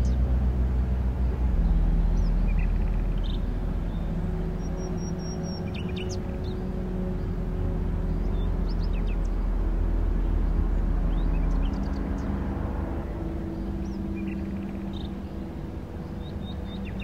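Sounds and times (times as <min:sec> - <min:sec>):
held low tones: 0:00.0 - 0:17.0
low rumble: 0:00.0 - 0:17.0.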